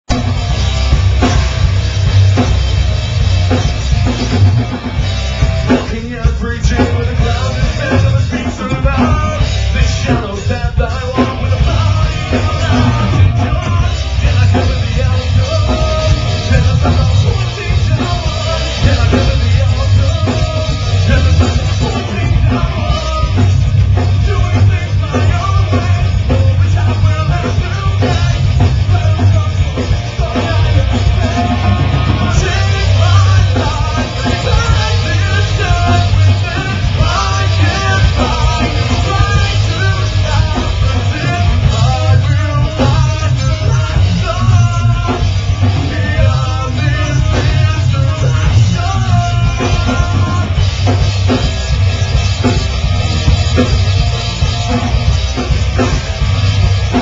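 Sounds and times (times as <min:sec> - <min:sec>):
bass guitar: 0:00.0 - 0:57.0
drum kit: 0:00.0 - 0:57.0
electric guitar: 0:00.0 - 0:57.0
person singing: 0:05.7 - 0:51.4.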